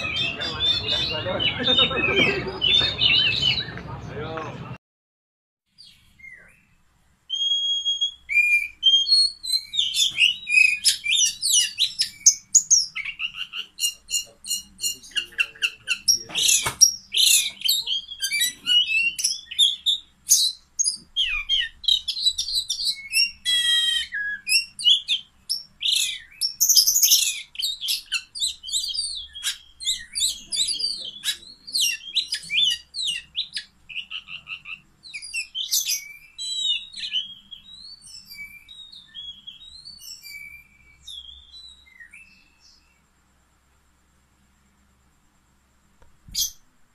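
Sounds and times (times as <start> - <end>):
bird singing whistles and trills: 0.0 - 3.8, 5.8 - 6.7, 7.3 - 43.0, 46.3 - 46.6.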